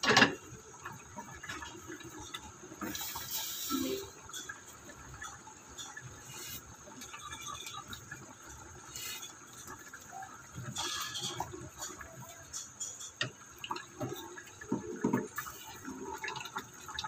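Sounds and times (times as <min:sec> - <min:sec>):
soup bubbling in a pot: 0:00.0 - 0:17.0.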